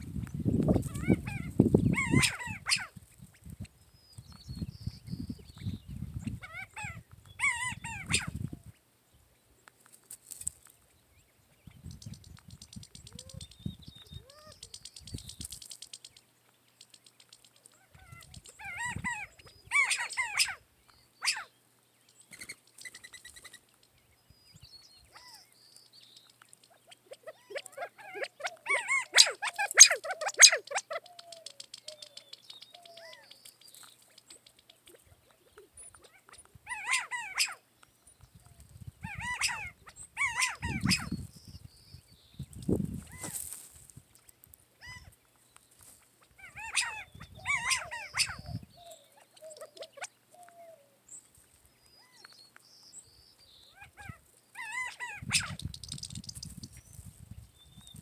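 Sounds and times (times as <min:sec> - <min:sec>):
quail chirping and calling: 0:00.0 - 0:08.9, 0:10.2 - 0:58.0.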